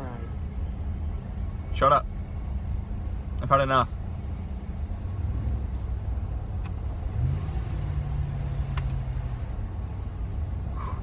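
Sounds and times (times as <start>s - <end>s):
truck engine accelerating: 0.0s - 2.5s, 4.3s - 11.0s.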